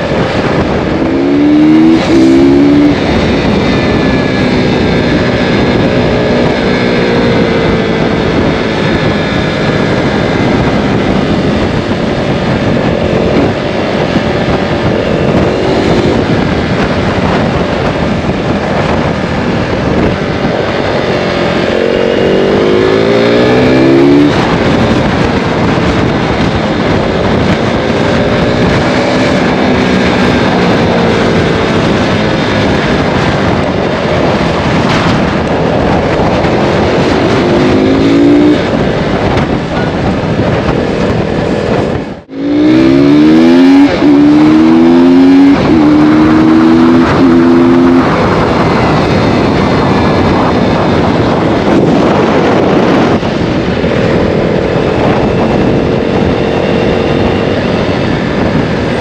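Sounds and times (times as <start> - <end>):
heavy wind noise: 0.0 - 59.0
motorcycle engine accelerating: 0.0 - 59.0.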